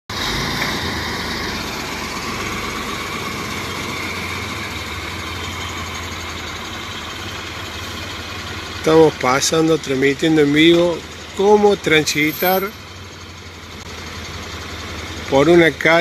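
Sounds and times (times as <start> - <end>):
vehicle engine running: 0.1 - 16.0.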